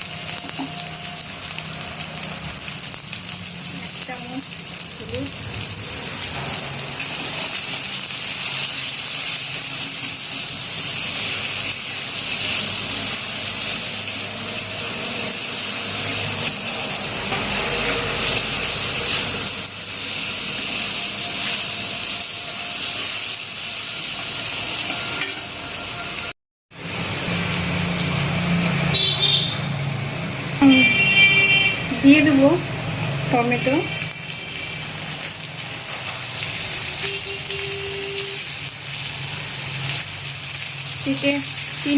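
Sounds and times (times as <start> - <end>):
vegetables sizzling in oil: 0.0 - 41.9.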